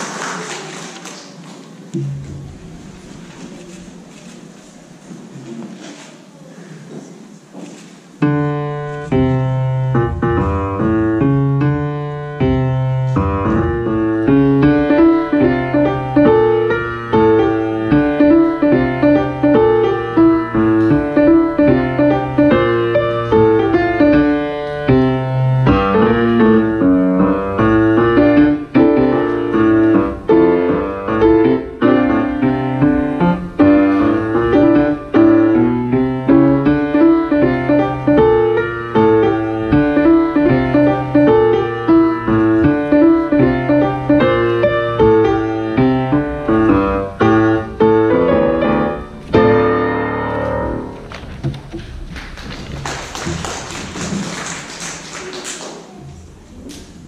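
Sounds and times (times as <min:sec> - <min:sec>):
solo piano: 0:08.2 - 0:54.7.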